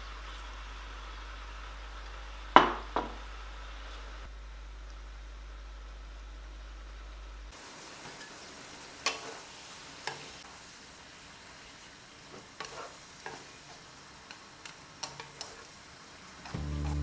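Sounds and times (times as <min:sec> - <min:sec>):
vegetables sizzling in a wok: 0:00.0 - 0:04.3, 0:07.5 - 0:17.0.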